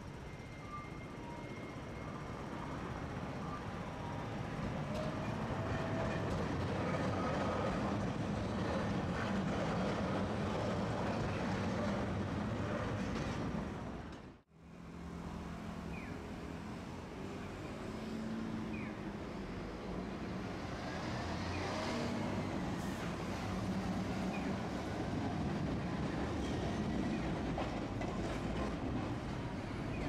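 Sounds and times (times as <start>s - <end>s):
streetcar passing on track: 0.0s - 30.0s.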